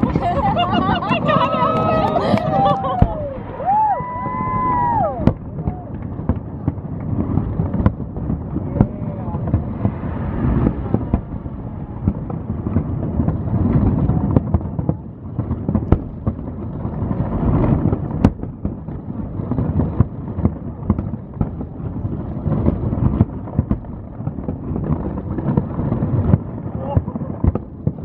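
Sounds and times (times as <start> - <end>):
fireworks booming: 0.0 - 28.0
fireworks cracking and crackling: 0.0 - 28.0.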